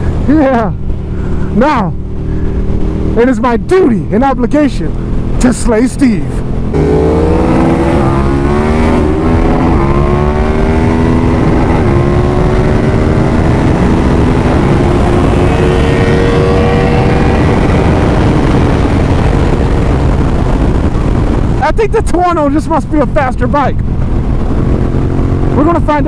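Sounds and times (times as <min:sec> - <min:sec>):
loud wind noise: 0:00.0 - 0:26.0
motorcycle engine accelerating hard: 0:00.0 - 0:26.0.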